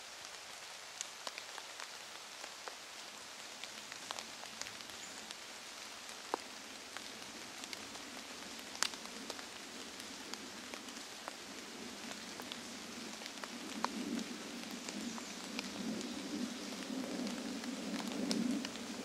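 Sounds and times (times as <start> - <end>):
rain pattering on leaves: 0.0 - 19.0.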